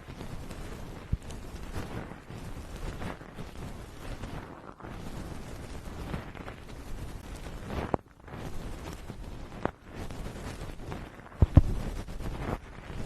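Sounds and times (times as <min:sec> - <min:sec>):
rubbing on microphone: 0:00.0 - 0:13.0.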